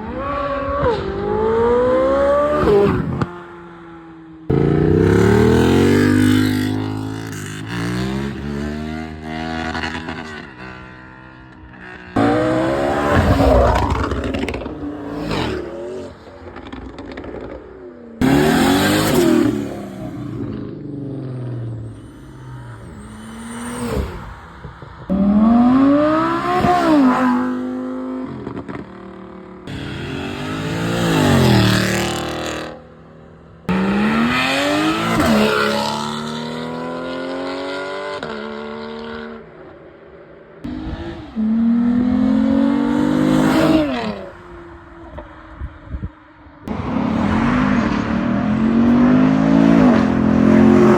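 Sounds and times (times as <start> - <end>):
sports car engines accelerating: 0.0 - 17.1, 18.2 - 39.3, 40.6 - 45.3, 46.6 - 50.9.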